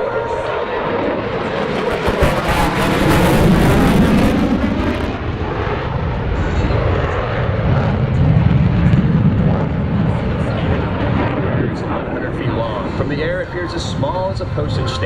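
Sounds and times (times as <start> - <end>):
aircraft engine roar flying past: 0.0 - 15.0.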